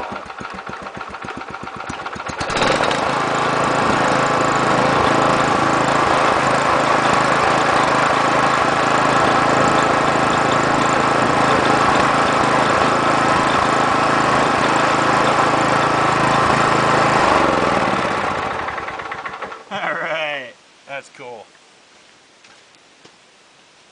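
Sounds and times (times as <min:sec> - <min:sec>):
engine idling and speeding up: 0:00.0 - 0:19.6.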